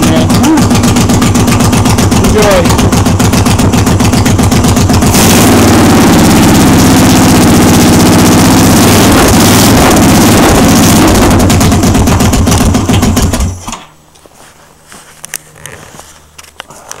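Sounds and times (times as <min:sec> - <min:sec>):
motorcycle engine running loud: 0:00.0 - 0:13.6.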